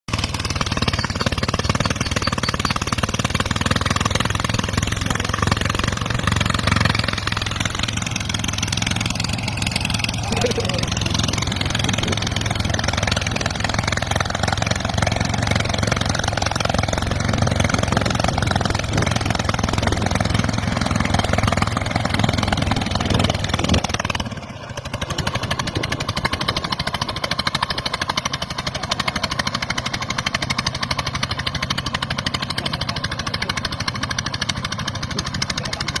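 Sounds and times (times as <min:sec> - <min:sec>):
vehicle engine running: 0:00.1 - 0:36.0.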